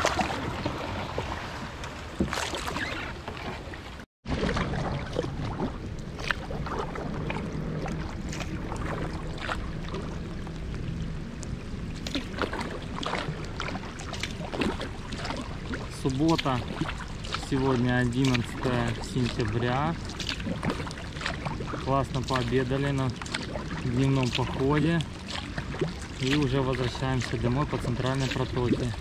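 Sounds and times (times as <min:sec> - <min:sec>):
kayak paddle splashing in water: 0:00.0 - 0:29.0
light rain on water: 0:04.6 - 0:29.0.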